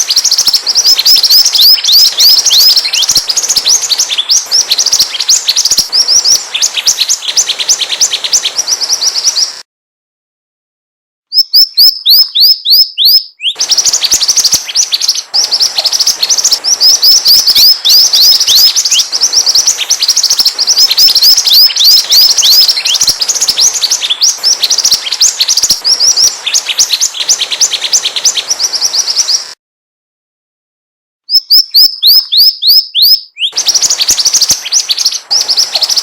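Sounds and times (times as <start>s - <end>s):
bird chirping: 0.0s - 9.6s, 11.3s - 29.6s, 31.3s - 36.0s.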